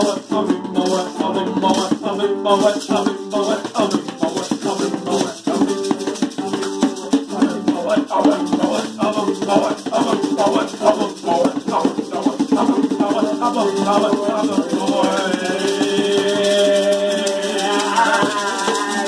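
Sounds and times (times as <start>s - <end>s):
hand drum rhythm: 0.0s - 19.0s
man singing: 0.0s - 19.0s
strummed acoustic guitar: 0.0s - 19.0s.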